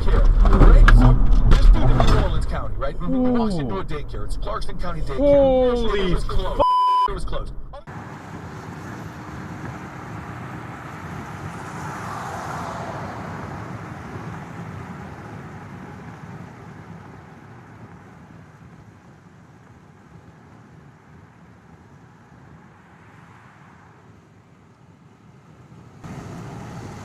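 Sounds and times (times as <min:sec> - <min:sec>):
car road and engine noise: 0:00.0 - 0:27.0.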